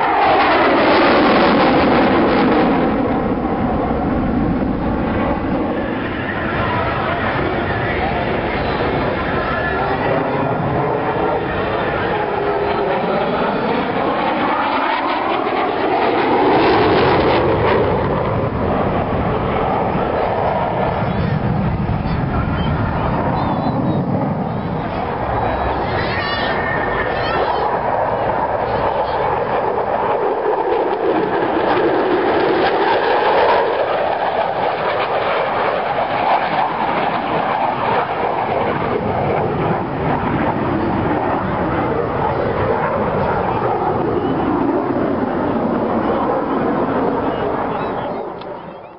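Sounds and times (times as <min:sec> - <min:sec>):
airplane engine flying past: 0:00.0 - 0:48.9.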